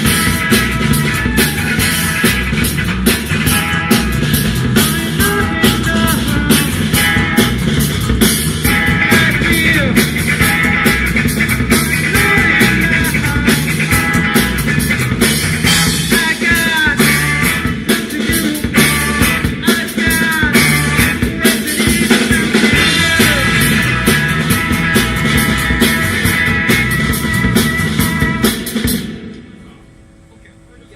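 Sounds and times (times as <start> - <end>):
rock band playing: 0.0 - 29.6.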